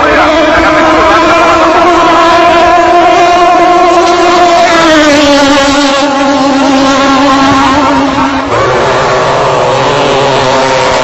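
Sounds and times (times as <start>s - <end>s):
boat engine high-pitched drone: 0.0s - 11.0s.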